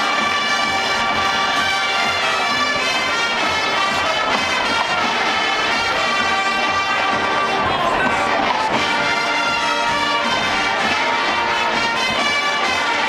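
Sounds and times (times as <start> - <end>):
marching band brass: 0.0 - 13.0
steady drum beat: 0.0 - 13.0.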